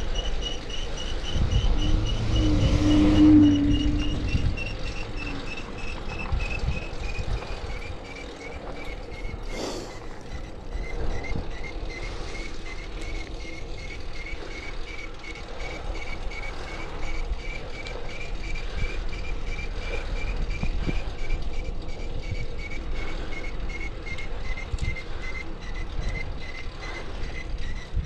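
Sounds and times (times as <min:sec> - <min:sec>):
bicycle chain chirping: 0:00.0 - 0:28.0
low rumble of riding noise: 0:00.0 - 0:28.0.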